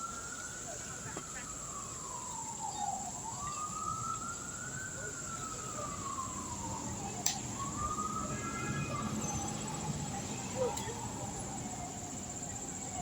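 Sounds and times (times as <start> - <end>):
siren wailing: 1.5 - 12.1
high-pitched insect drone: 1.6 - 13.0.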